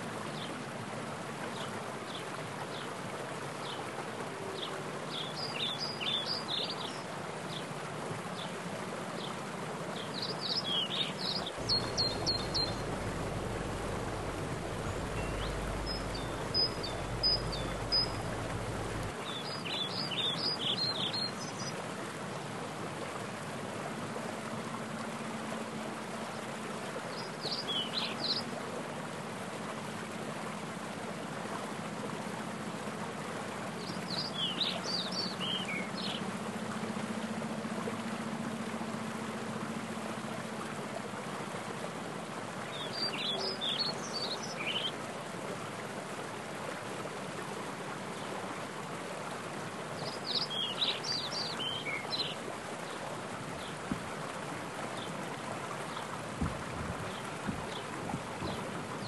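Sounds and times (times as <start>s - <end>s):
mountain stream rushing: 0.0s - 59.0s
rain falling on water: 0.0s - 59.0s.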